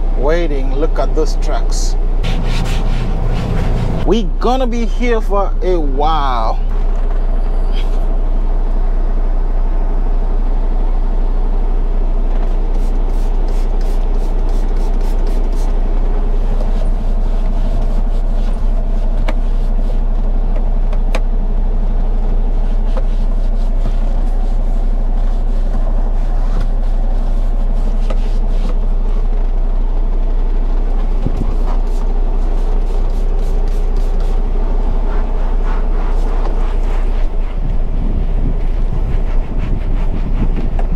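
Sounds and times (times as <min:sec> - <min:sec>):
diesel truck engine idling: 0:00.0 - 0:39.7.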